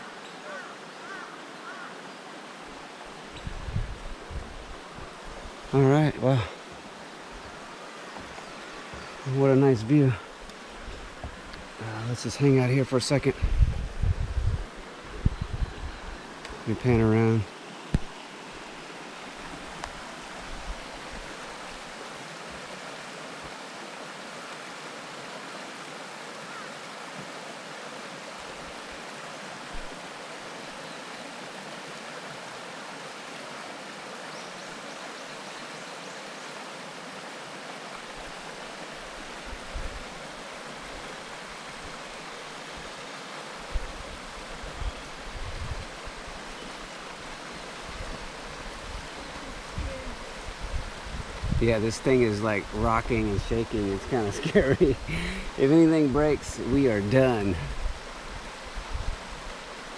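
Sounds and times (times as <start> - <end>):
distant river rushing: 0.0 - 59.9.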